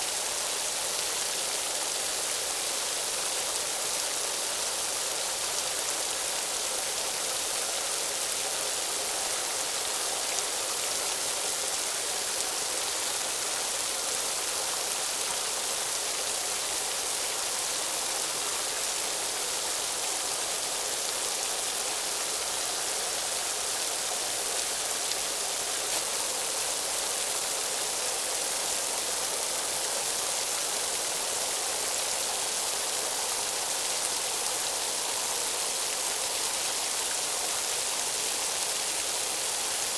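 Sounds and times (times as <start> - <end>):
steady hiss of noise: 0.0 - 39.9.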